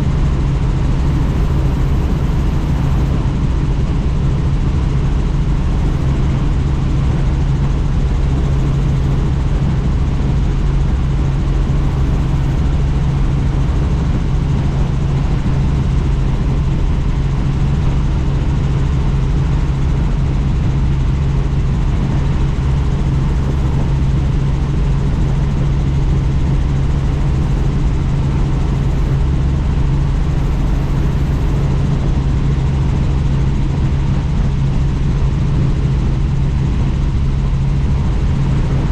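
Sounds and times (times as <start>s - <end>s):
helicopter rotor and engine drone: 0.0s - 38.9s
low rush of wind: 0.0s - 38.9s.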